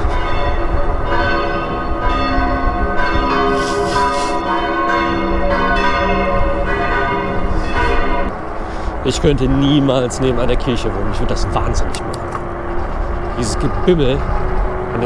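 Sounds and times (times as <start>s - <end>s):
church bells pealing: 0.0s - 11.8s, 12.4s - 15.0s.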